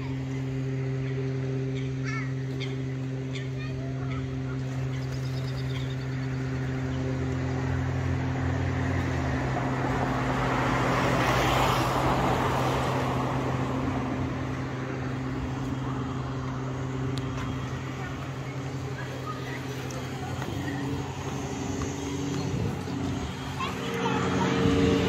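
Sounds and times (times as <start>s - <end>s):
low engine hum: 0.0s - 25.0s
vehicle passing by: 0.0s - 25.0s.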